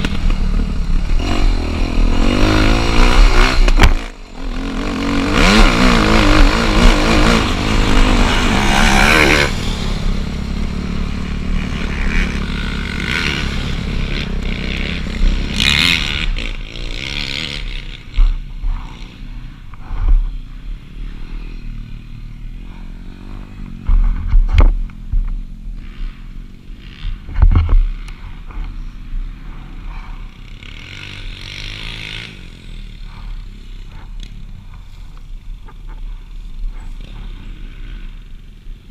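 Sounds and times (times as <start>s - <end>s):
dirt bike engine revving: 0.0s - 24.2s, 25.8s - 34.7s.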